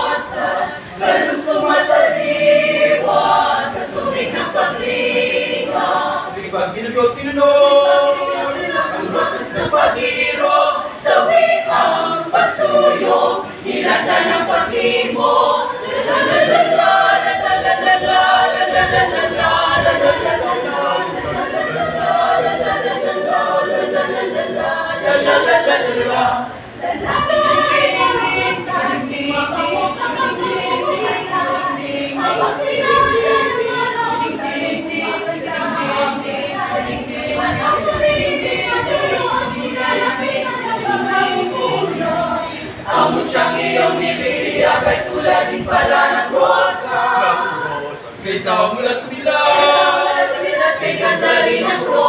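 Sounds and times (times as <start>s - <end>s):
choir singing a cappella: 0.0s - 52.0s.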